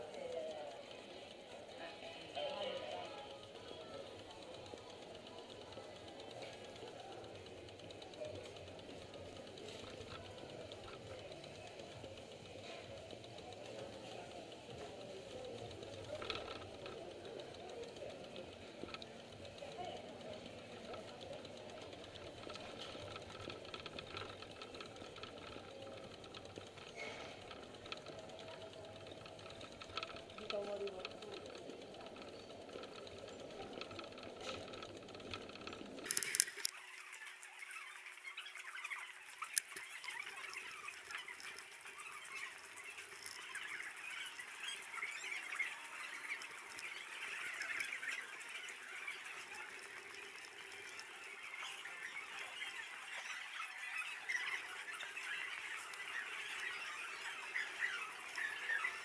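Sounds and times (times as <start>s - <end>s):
fast rattling tick: 0.0s - 59.0s
sped-up voices and footsteps: 0.0s - 59.0s.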